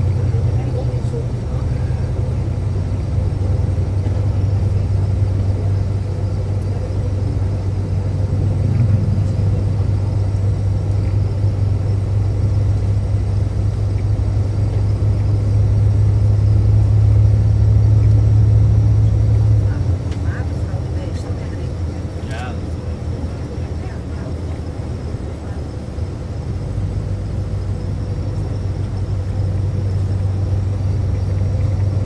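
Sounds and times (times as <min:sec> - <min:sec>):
car driving at speed: 0:00.0 - 0:32.0.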